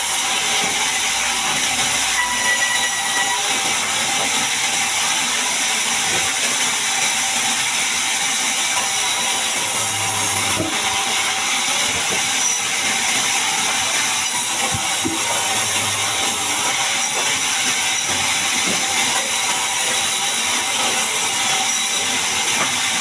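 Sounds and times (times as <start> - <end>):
band saw cutting log: 0.0 - 23.0.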